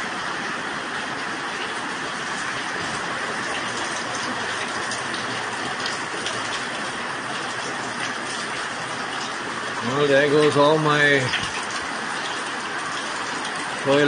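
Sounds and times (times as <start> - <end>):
heavy rain hissing: 0.0 - 14.0
raindrop splashes: 0.8 - 14.0.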